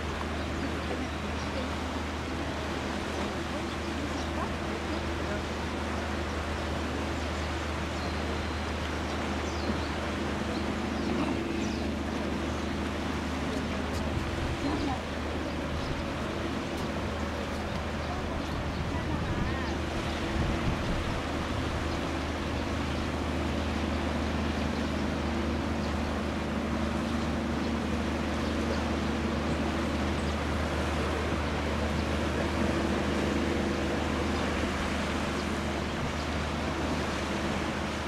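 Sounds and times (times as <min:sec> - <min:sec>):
constant rushing noise: 0:00.0 - 0:38.0
low engine drone: 0:00.0 - 0:38.0.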